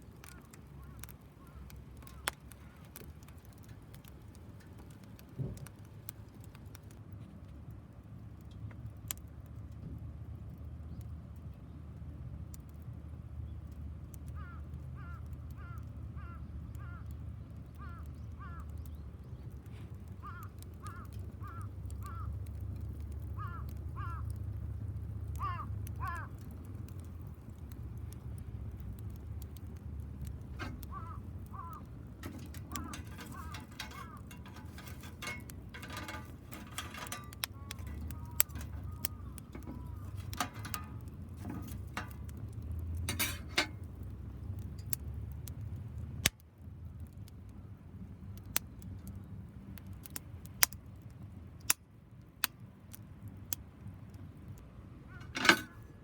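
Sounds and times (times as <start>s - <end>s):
wood fire crackling and popping: 0.0s - 9.8s, 12.4s - 56.0s.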